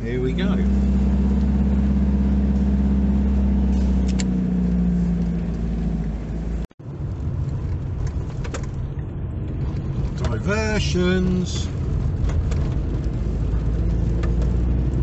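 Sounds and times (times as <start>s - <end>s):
road noise: 0.0s - 15.0s
van engine running: 0.0s - 15.0s.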